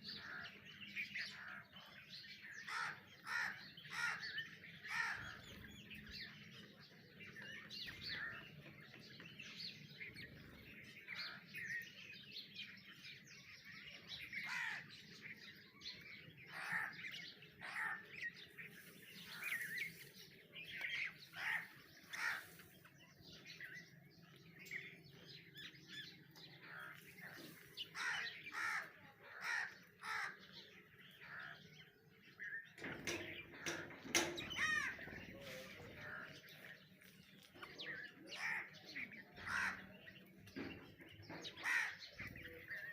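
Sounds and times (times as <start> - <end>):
birds chirping and calling: 0.0 - 42.9.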